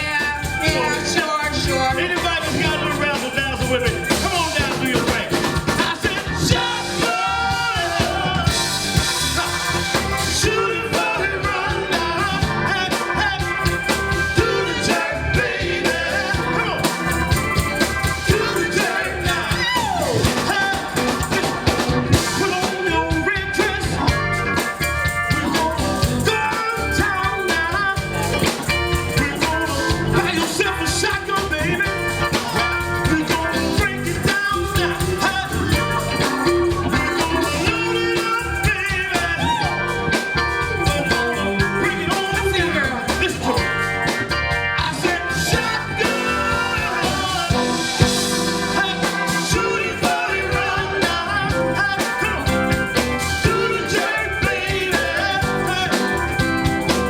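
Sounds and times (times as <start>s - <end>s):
drum and bass beat: 0.0s - 57.0s
electric guitar: 0.0s - 57.0s
live band music: 0.0s - 57.0s.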